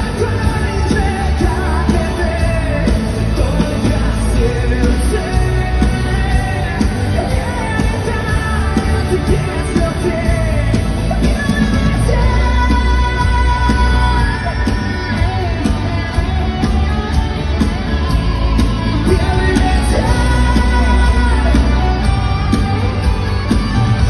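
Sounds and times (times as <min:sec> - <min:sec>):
heavy bass and drums: 0:00.0 - 0:24.0
live rock band playing: 0:00.0 - 0:24.0
person singing: 0:00.0 - 0:24.0.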